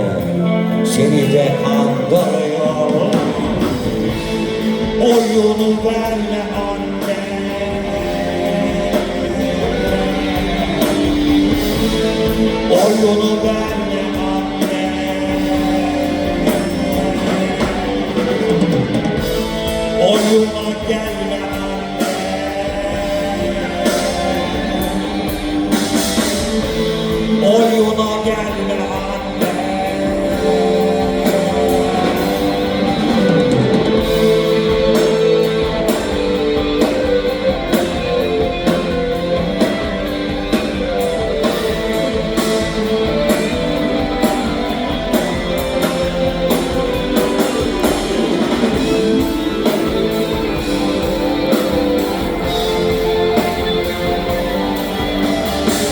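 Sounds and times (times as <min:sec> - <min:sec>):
bass guitar: 0:00.0 - 0:55.9
drum kit: 0:00.0 - 0:55.9
rock guitar with bent notes: 0:00.0 - 0:55.9.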